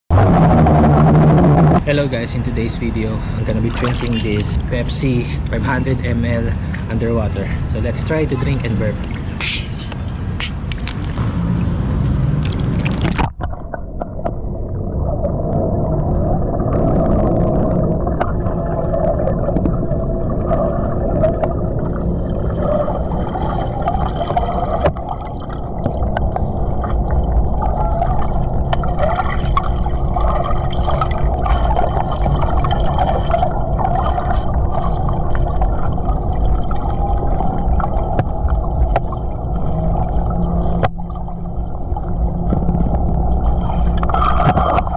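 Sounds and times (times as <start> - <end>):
underwater hum and rumble: 0.1 - 44.9
underwater clicks and gurgles: 2.4 - 44.9
water splashing above surface: 3.4 - 4.8, 9.0 - 44.9.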